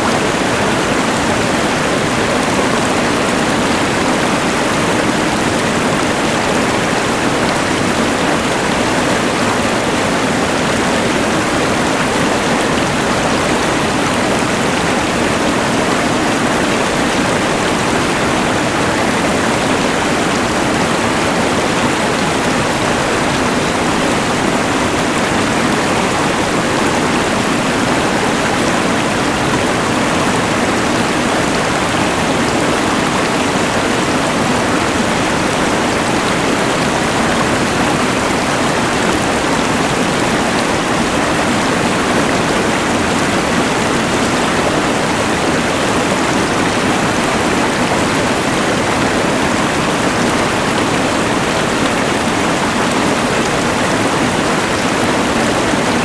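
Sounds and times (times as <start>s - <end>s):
rushing river: 0.0s - 56.0s.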